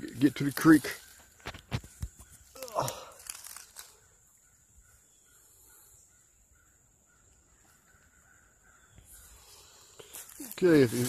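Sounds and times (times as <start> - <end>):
distant bird calling: 0.0 - 11.0.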